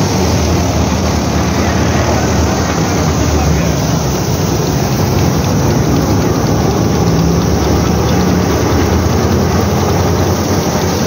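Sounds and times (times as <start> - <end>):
thresher mechanical din: 0.0 - 11.0
tractor diesel engine droning: 0.0 - 11.0.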